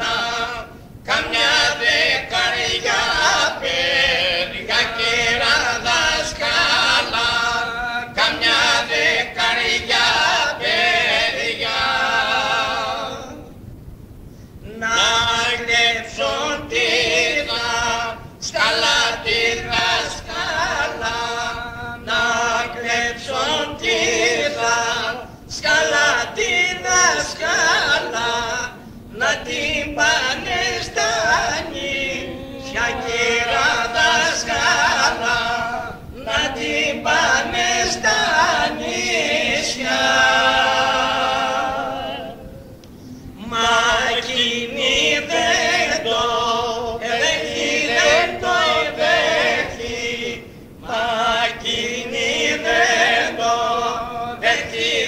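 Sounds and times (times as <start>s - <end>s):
men singing unaccompanied: 0.0s - 13.6s, 14.5s - 55.0s.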